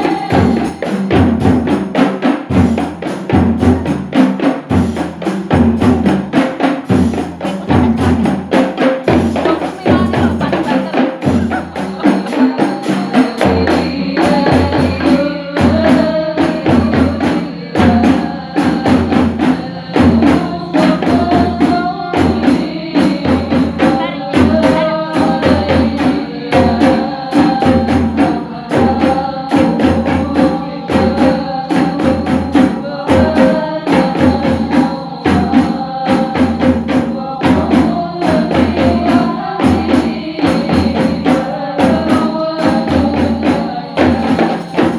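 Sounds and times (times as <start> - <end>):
frame drums with jingles: 0.0 - 44.9
low drum beat: 0.0 - 44.9.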